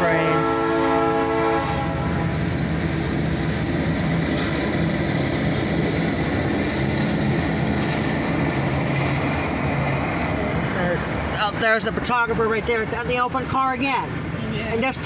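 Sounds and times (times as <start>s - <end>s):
diesel locomotive engine hum: 0.0s - 15.0s
moving train noise: 0.0s - 15.0s.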